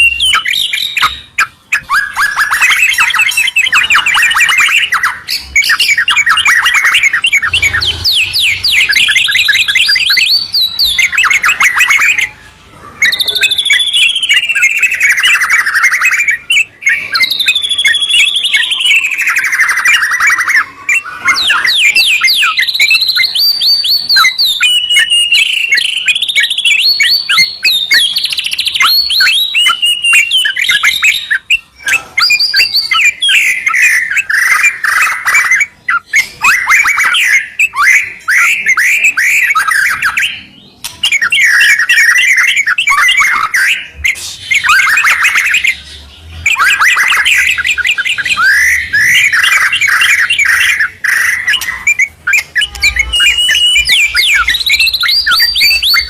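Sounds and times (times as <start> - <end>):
birds singing: 0.0 - 56.0.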